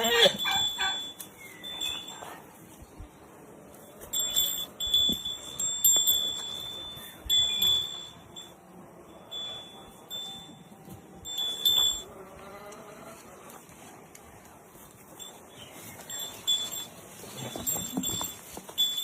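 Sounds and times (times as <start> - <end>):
high metallic ringing tone: 0.0 - 2.8, 3.8 - 12.7, 15.0 - 19.0.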